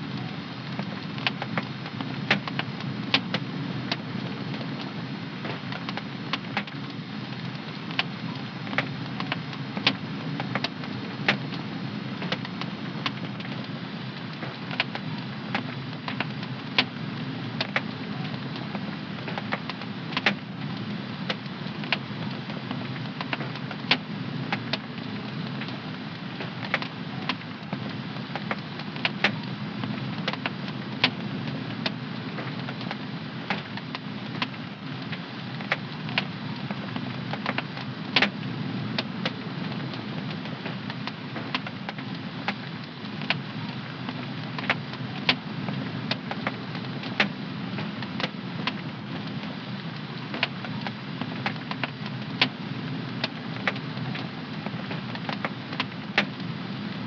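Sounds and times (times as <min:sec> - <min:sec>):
wood fire crackling and popping: 0:00.1 - 0:57.0.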